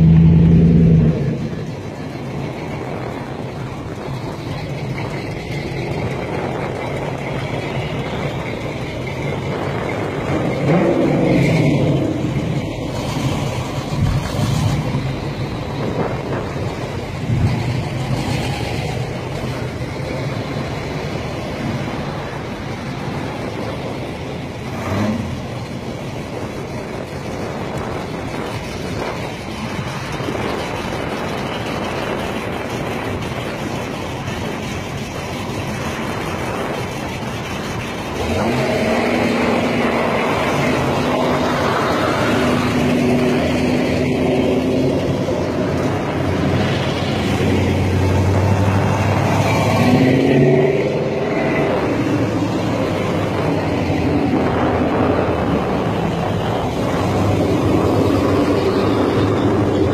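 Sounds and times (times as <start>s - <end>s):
car engines accelerating: 0.0s - 59.9s.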